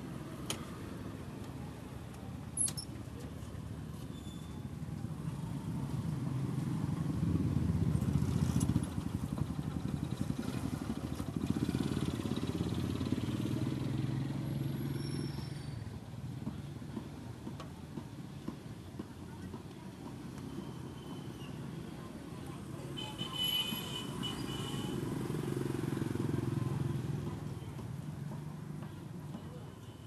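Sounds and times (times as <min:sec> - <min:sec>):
motorbike engines running: 0:04.6 - 0:23.2, 0:23.8 - 0:29.8.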